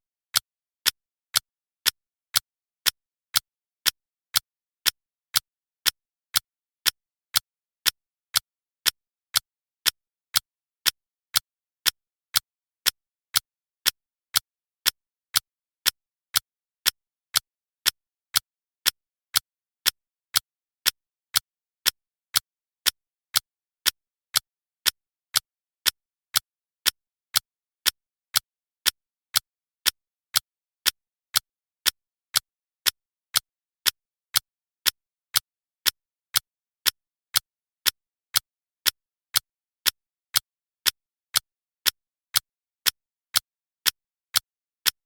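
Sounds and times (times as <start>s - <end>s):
timer ticking clicks: 0.0s - 45.0s.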